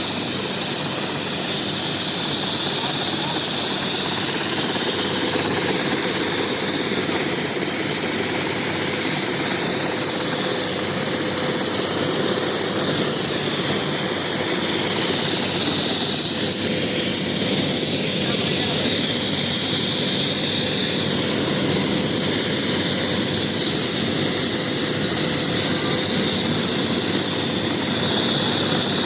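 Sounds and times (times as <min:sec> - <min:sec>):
helicopter rotor noise: 0:00.0 - 0:29.0
helicopter turbine engines whining: 0:00.0 - 0:29.0.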